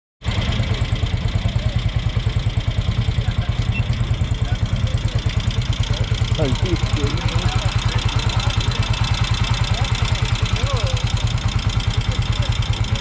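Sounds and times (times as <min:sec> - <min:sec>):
motorcycle engine idling: 0:00.3 - 0:13.0.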